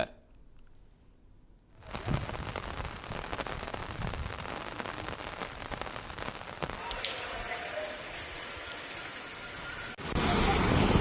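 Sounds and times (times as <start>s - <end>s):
heavy rain falling: 1.8s - 11.0s.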